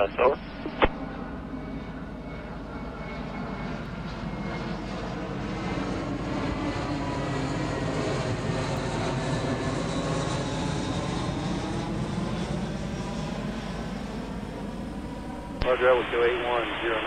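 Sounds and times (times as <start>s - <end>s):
jet airliner flying overhead: 0.0s - 17.0s.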